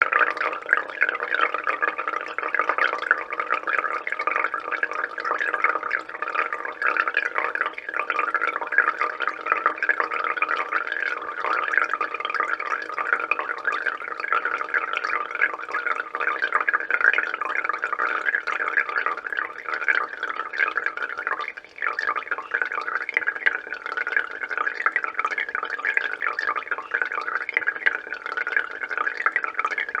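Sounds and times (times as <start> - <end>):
water dripping into a jug: 0.0 - 30.0.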